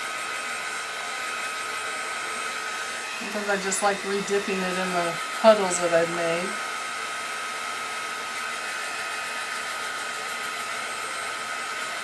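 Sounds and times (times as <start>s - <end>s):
heat gun blowing with whine: 0.0s - 12.0s.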